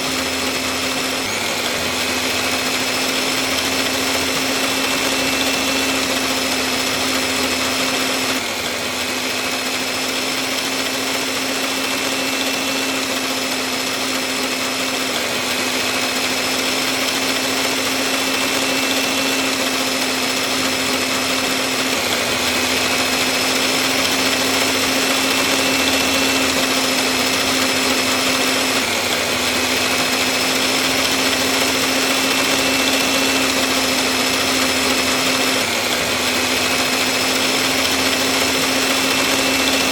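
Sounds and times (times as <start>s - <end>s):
small motor whining: 0.0s - 39.9s.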